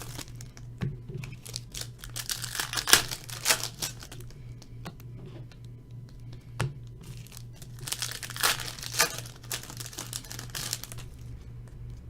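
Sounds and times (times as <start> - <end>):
plastic wrapper crinkling: 0.0 - 5.0, 6.8 - 12.0
low electrical hum: 0.0 - 12.0.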